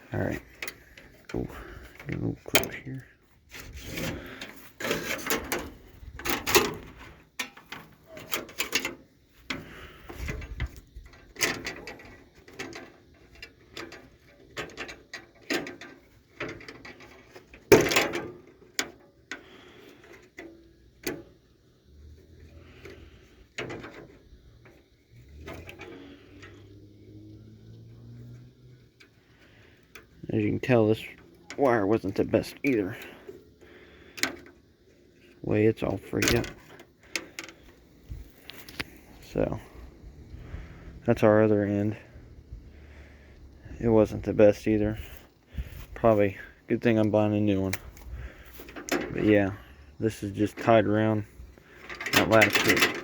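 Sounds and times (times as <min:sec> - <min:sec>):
metallic clicks and rattles: 0:00.0 - 0:27.4, 0:28.0 - 0:40.8, 0:44.0 - 0:53.0.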